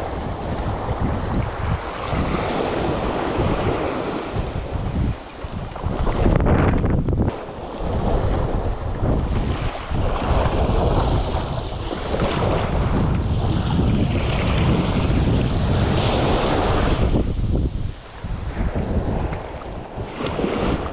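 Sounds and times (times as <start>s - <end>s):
sea wash: 0.0s - 20.9s
wind buffeting microphone: 0.0s - 20.9s.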